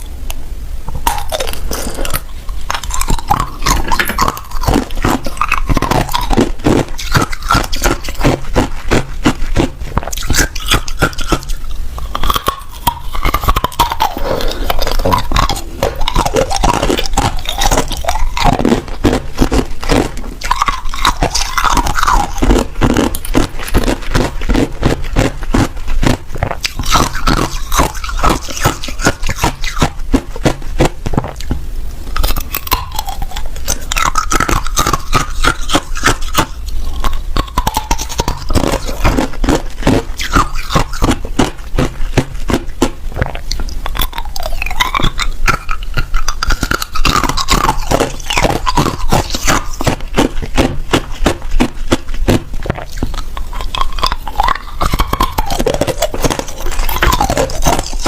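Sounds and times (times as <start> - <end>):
person crunching ice: 1.1 - 31.5, 32.2 - 58.0.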